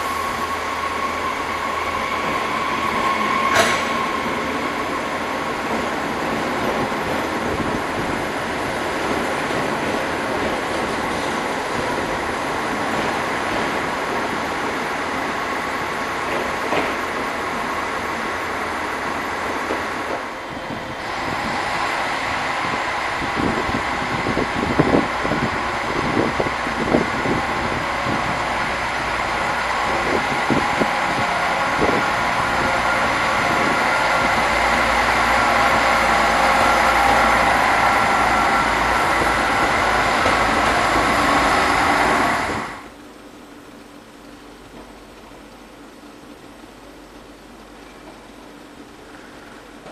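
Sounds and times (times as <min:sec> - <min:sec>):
diesel railcar engine: 0:00.0 - 0:49.9
train rolling: 0:00.0 - 0:49.9.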